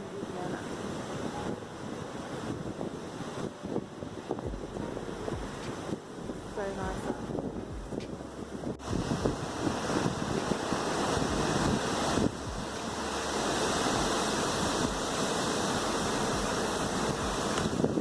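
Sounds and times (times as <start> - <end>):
sea water rushing along hull: 0.0 - 18.0
wind buffeting microphone: 0.0 - 18.0.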